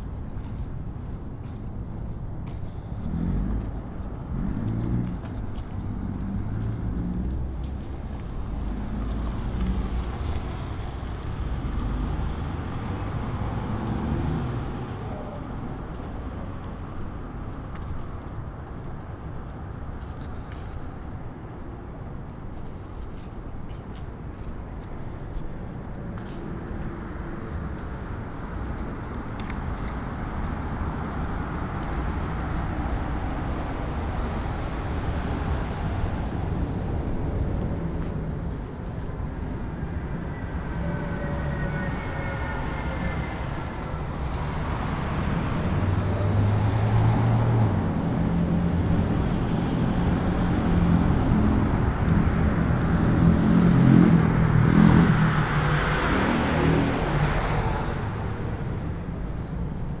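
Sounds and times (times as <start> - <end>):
city street traffic: 0.0 - 60.0
vehicle engine hum: 0.0 - 60.0.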